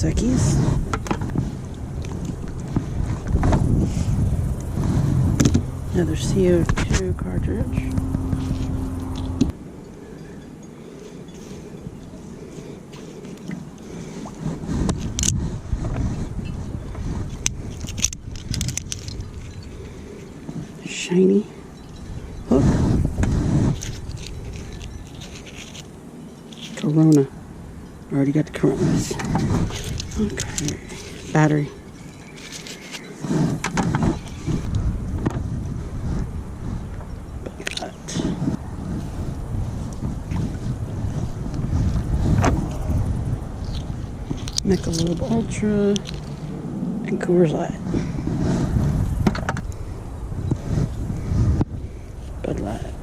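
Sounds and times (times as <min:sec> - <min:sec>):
rumbling handling noise: 0:00.0 - 0:53.0.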